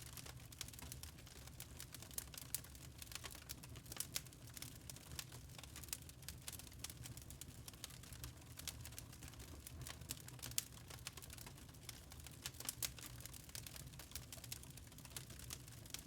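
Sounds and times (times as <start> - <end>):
burning logs crackling: 0.0 - 16.0.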